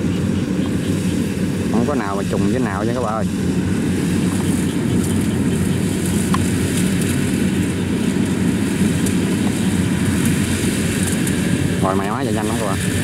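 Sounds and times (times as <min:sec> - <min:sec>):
combine harvester diesel engine: 0:00.0 - 0:13.0.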